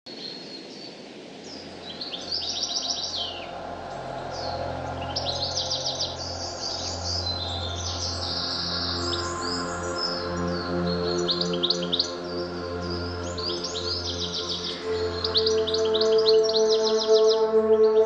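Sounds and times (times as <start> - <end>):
songbirds singing: 0.1 - 18.0.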